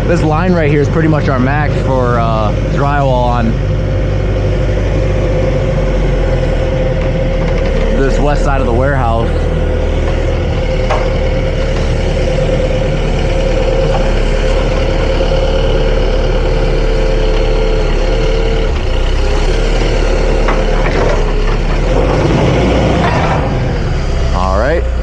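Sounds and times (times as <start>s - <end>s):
continuous whine: 0.0s - 25.0s
forklift engine drone: 0.0s - 25.0s.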